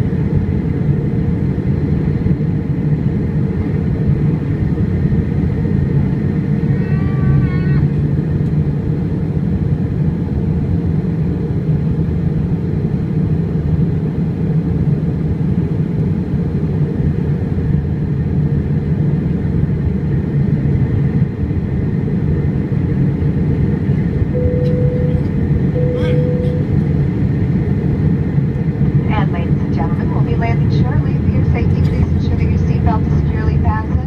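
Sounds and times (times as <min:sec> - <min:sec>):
airplane cabin engine rumble: 0:00.0 - 0:34.0.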